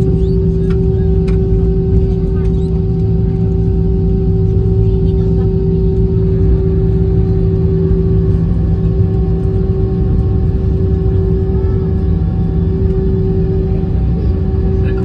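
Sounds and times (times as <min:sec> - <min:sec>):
jet engines and wheels rumbling: 0:00.0 - 0:15.0
steady cabin hum: 0:00.0 - 0:15.0.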